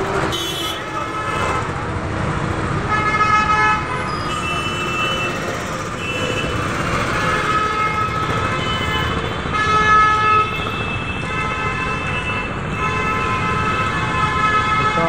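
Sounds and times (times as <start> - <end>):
engine and road rumble: 0.0 - 14.4
vehicle horns honking: 0.3 - 1.7, 2.9 - 15.0.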